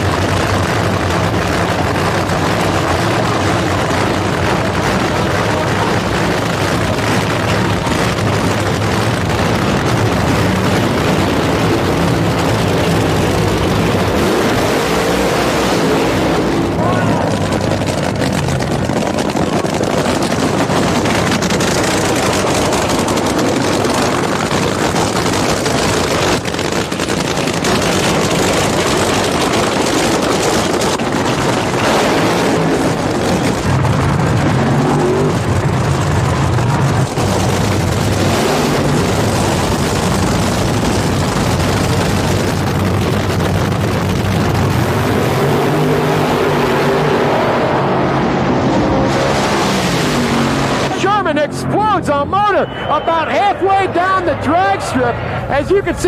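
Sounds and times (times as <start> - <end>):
dragster burnout: 0.0 - 56.0
dragster engines idling and revving: 0.0 - 56.0.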